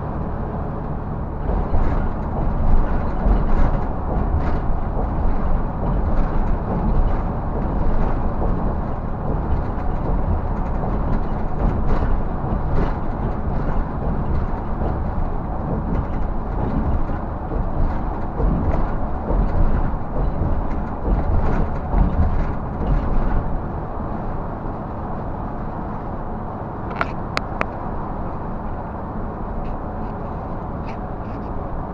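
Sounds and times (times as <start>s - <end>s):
bus engine drone: 0.0s - 31.9s
road and tyre noise: 0.0s - 31.9s.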